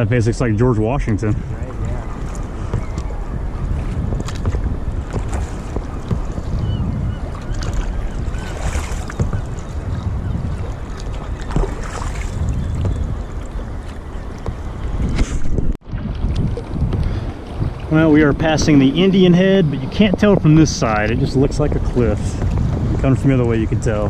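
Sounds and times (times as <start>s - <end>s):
water splashing: 0.0s - 24.0s
wind rumbling on microphone: 0.0s - 24.0s.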